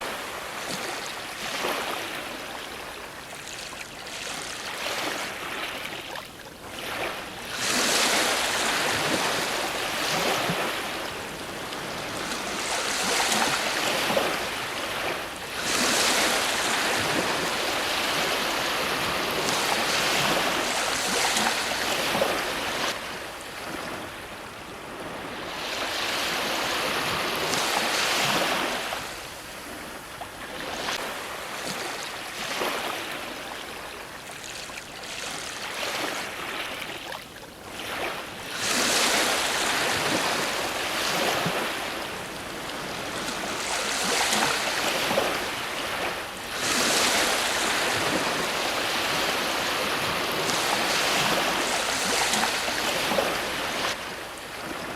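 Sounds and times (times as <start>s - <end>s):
ocean waves breaking on shore: 0.0s - 54.9s.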